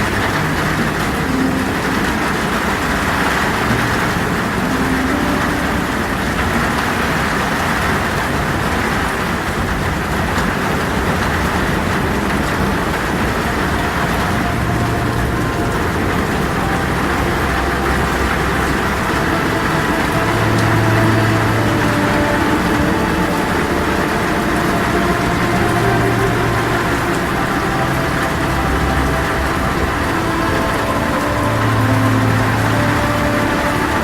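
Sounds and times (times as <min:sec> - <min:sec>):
faint low wind: 0:00.0 - 0:34.0
heavy rain on a tin roof: 0:00.0 - 0:34.0
low storm rumble: 0:00.0 - 0:34.0.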